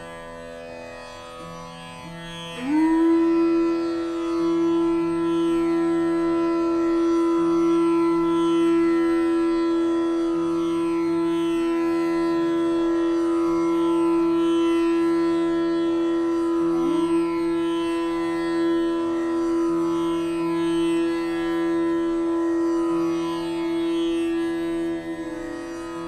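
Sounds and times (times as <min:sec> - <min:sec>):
indian classical melody: 0:00.0 - 0:26.0.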